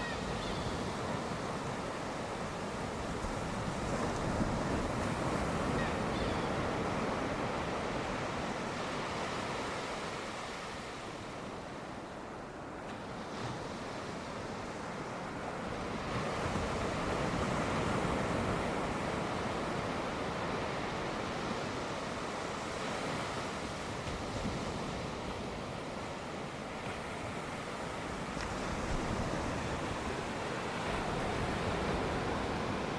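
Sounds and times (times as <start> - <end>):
sea waves washing onto shore: 0.0 - 32.9.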